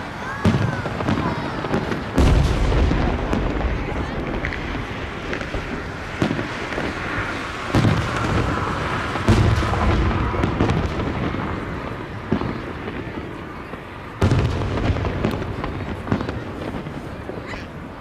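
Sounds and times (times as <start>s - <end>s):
fireworks booming: 0.0s - 18.0s
fireworks cracks: 0.0s - 18.0s.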